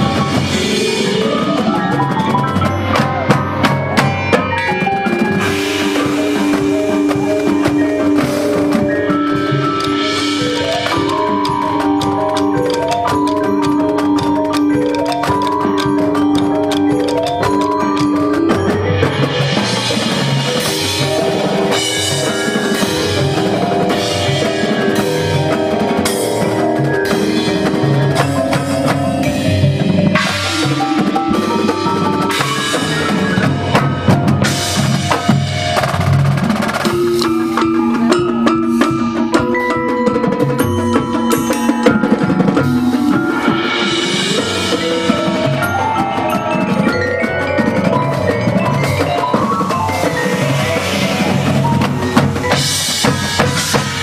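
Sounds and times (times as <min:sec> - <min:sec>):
mallet keyboards: 0:00.0 - 0:54.0.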